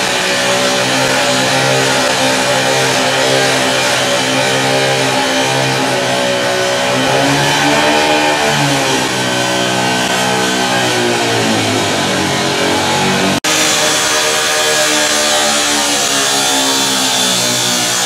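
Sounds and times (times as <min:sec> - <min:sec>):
cut-off saw cutting metal: 0:00.0 - 0:18.0.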